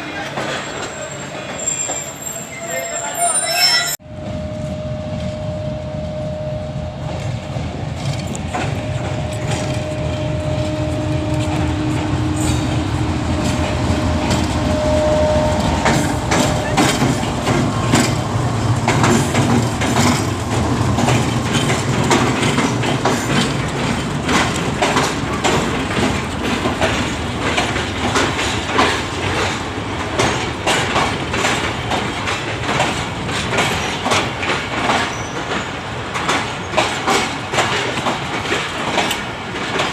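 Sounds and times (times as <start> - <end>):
locomotive rumble: 0.0 - 35.0
wheels clacking over rail joints: 7.9 - 39.9.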